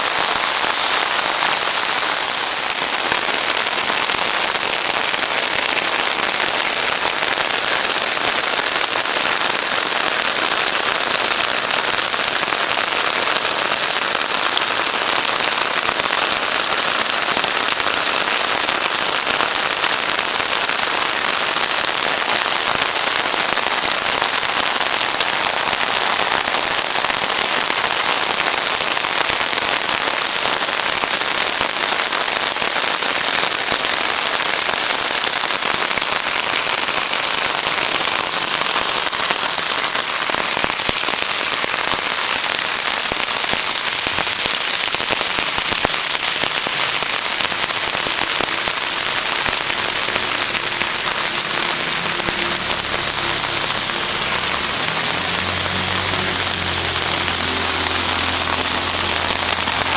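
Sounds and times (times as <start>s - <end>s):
heavy rain falling on a street: 0.0s - 59.9s.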